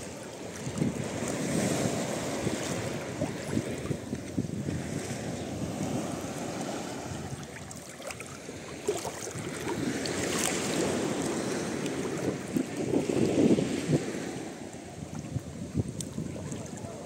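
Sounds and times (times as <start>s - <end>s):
small waves lapping: 0.0s - 17.0s.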